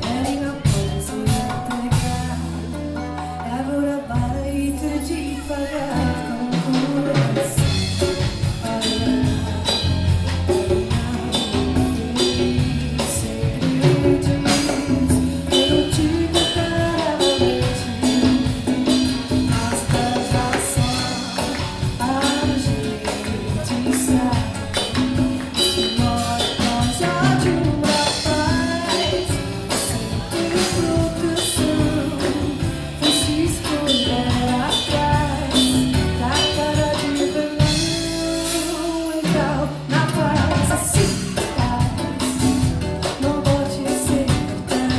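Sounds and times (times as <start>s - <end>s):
band playing song: 0.0s - 44.9s
bass line: 0.0s - 44.9s
person singing melody: 0.0s - 44.9s.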